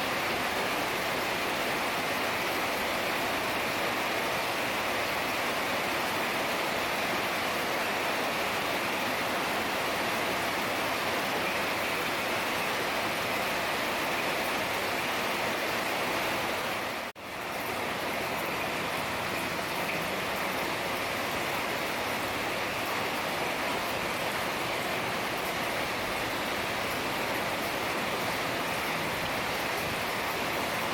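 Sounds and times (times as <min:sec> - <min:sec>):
heavy rain: 0:00.0 - 0:30.9.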